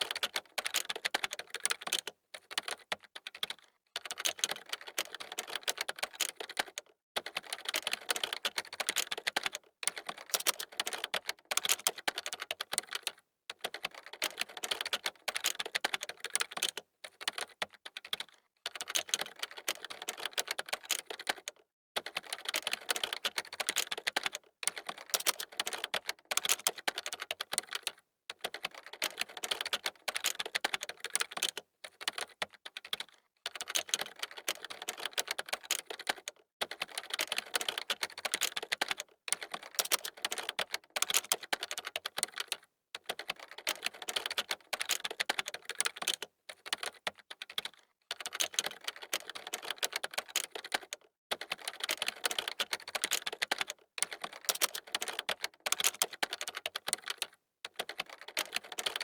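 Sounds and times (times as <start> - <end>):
fast typing on keyboard: 0.0 - 59.0.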